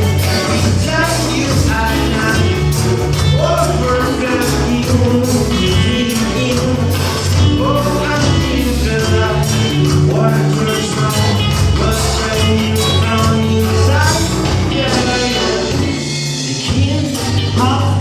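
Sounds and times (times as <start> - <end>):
band music: 0.0 - 18.0
heavy bass line: 0.0 - 18.0
steady drum beat: 0.0 - 18.0.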